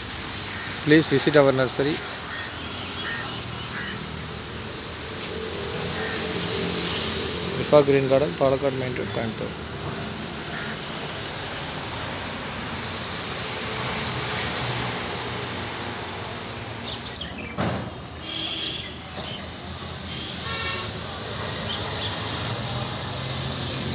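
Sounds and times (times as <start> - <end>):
outdoor background noise: 0.0 - 23.9.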